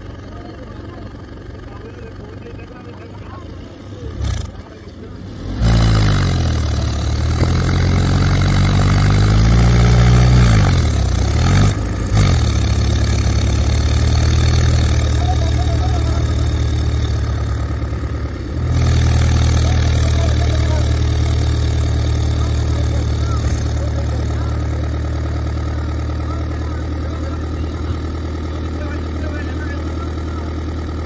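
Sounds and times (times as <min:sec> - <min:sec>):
tractor diesel engine revving: 0:00.0 - 0:31.0.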